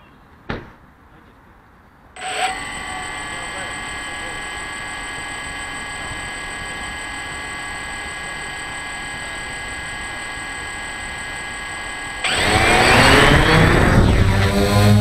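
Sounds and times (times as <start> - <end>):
drone motors whining: 2.2 - 15.0.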